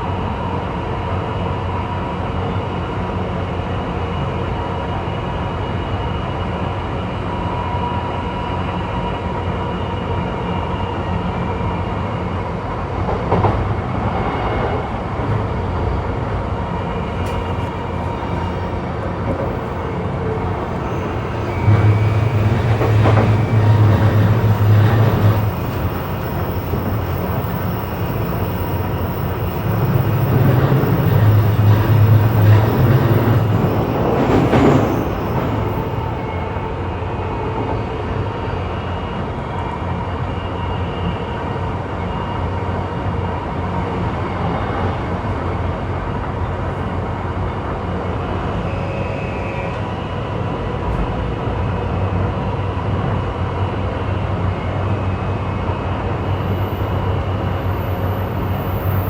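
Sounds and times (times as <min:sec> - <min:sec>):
train wheel and track noise: 0:00.0 - 0:59.0.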